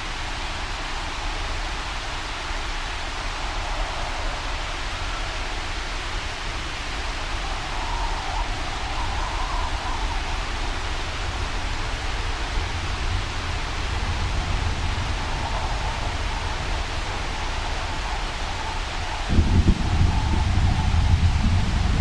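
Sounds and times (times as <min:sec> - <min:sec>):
wind and rain hiss: 0:00.0 - 0:22.0.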